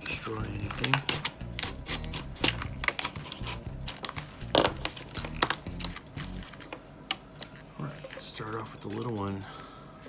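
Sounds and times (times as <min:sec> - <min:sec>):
plastic packaging crackling: 0:00.0 - 0:09.2.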